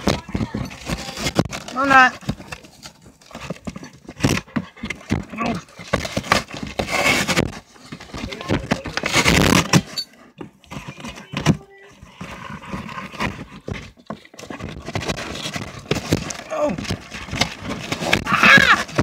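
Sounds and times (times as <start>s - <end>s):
pet rustling in paper stuffing: 0.0s - 19.0s.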